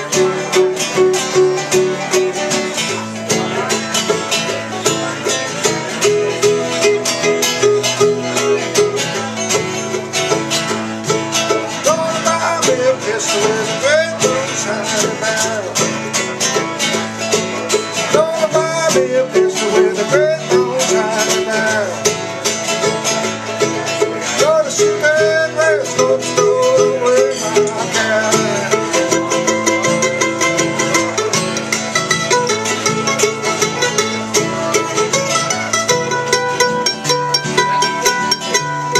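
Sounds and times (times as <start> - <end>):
bluegrass plucked string music: 0.0 - 38.9.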